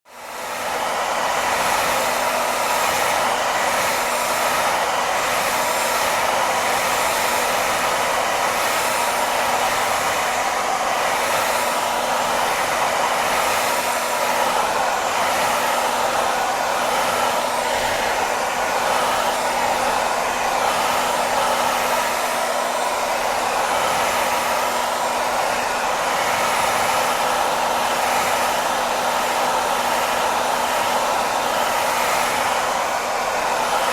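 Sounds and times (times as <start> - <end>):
hair dryer blowing air: 0.0 - 33.9.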